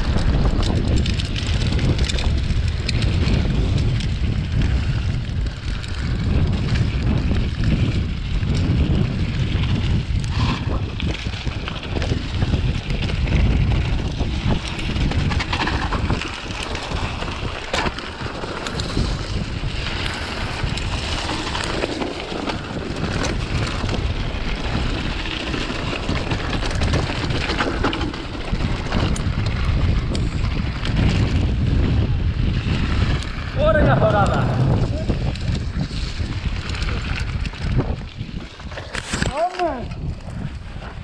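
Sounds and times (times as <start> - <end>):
bike rattling: 0.0 - 41.0
wind buffeting microphone: 0.0 - 41.0.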